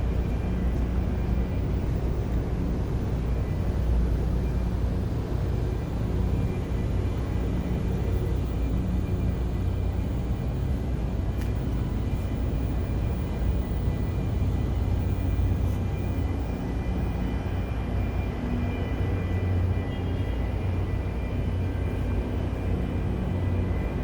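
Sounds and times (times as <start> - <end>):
faint steady tones: 0.0 - 24.0.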